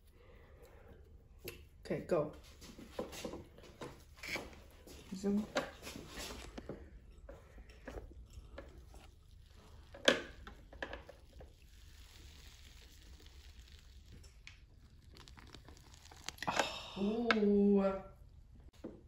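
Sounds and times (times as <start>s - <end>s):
faint crackling in waffle iron: 2.6s - 19.0s.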